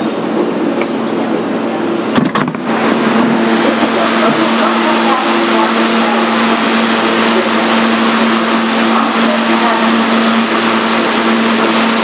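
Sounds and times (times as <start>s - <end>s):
subway train hum: 0.0s - 12.0s
train rushing noise: 0.0s - 12.0s.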